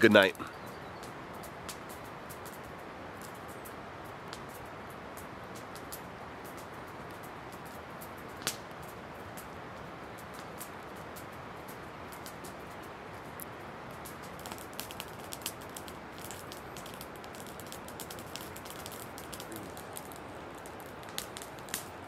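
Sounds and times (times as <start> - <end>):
faint ticks and crackles: 0.0 - 22.0
outdoor background hiss: 0.0 - 22.0.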